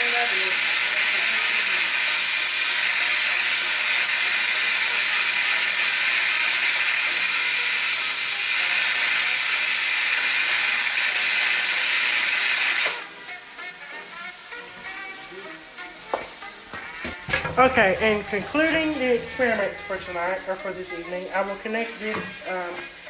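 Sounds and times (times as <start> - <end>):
electrical sparks hissing: 0.0 - 23.0.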